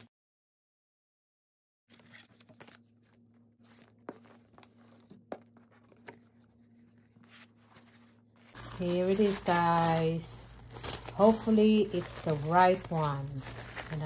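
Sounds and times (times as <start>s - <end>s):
handling paper cards: 1.9s - 14.0s
low steady hum: 1.9s - 14.0s.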